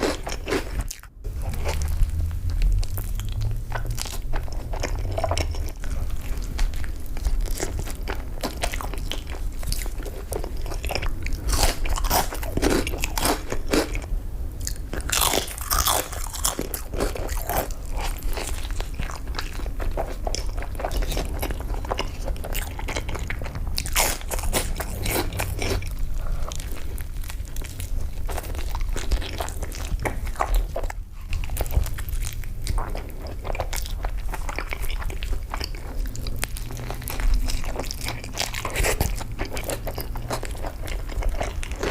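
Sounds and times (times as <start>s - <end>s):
crunchy bites and chewing: 0.0s - 41.9s.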